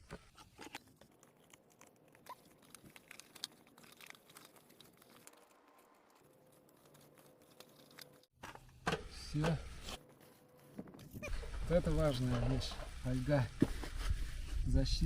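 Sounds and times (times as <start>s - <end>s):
camping gear rustling and clicking: 0.0s - 14.7s.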